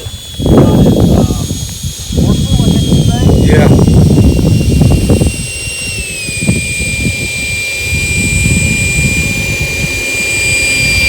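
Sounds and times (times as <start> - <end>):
electric fan high whine: 0.0 - 11.0.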